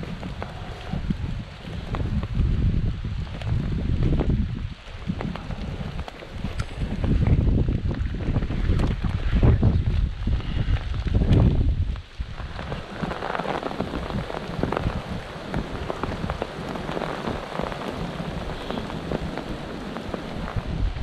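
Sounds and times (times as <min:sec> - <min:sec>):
footsteps through wet leaves: 0:00.0 - 0:21.0
wind rumble on microphone: 0:00.0 - 0:21.0.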